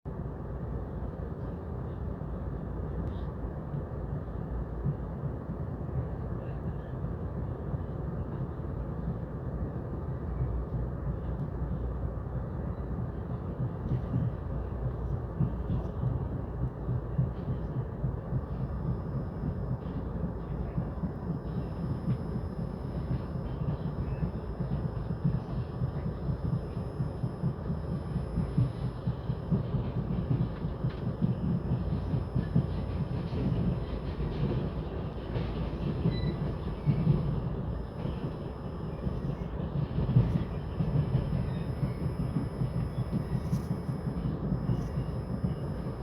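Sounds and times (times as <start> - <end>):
train rumbling on rails: 0.1 - 46.0.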